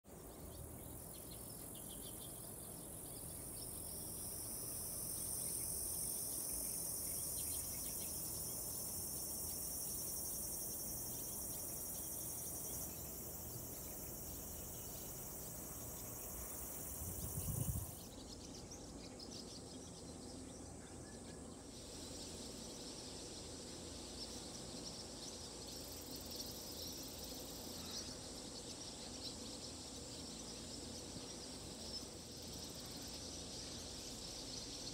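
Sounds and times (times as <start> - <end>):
insect chorus: 0.1 - 34.9.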